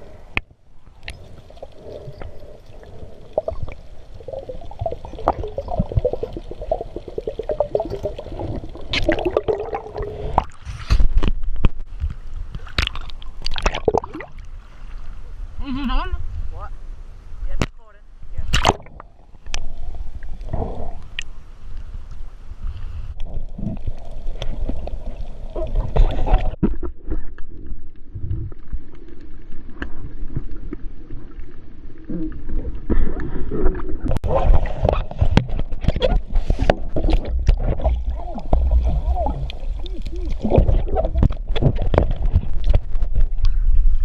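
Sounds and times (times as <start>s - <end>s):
sea water churning and gurgling: 0.0s - 11.3s, 11.9s - 15.6s, 18.4s - 44.0s.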